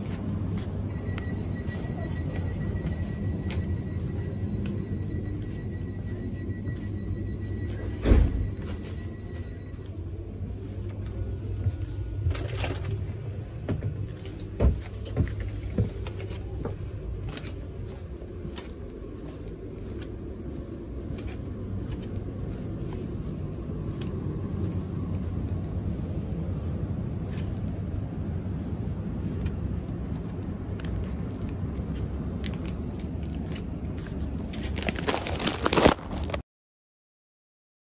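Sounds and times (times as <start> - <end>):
train carriage rumble: 0.0 - 36.4.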